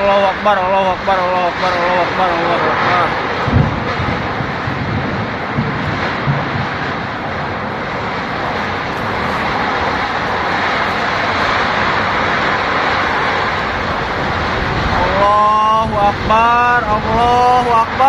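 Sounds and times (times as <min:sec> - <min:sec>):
strong wind rushing: 0:00.0 - 0:18.0.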